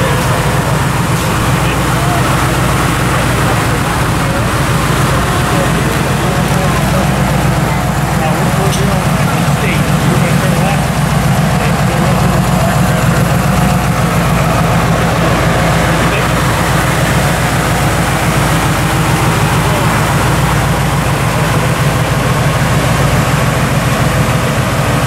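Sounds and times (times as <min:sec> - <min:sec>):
car engine idling: 0:00.0 - 0:25.0
people talking: 0:00.0 - 0:25.0.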